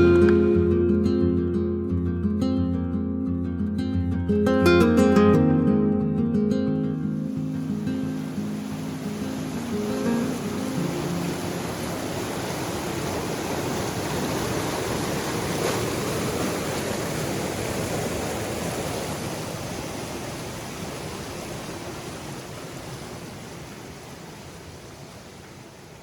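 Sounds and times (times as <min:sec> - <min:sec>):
river water rushing: 0:00.0 - 0:01.8, 0:04.4 - 0:26.0.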